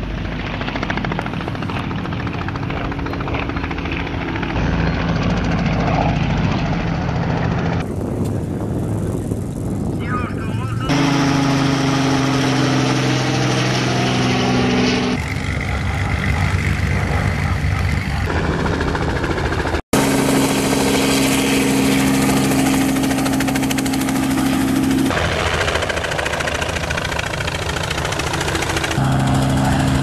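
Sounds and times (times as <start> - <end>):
aircraft engine humming: 0.0 - 30.0.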